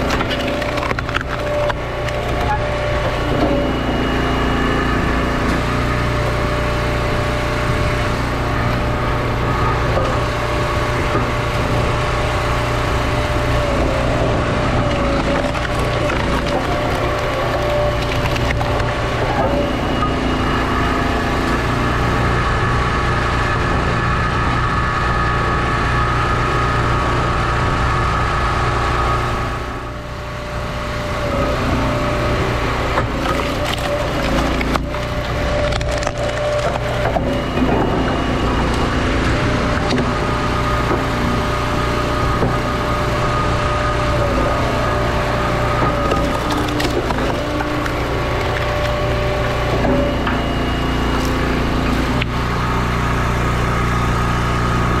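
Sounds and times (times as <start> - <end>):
wood cracking and splitting: 0.0 - 3.9, 5.0 - 20.1, 29.7 - 54.8
log splitter engine running: 0.0 - 55.0.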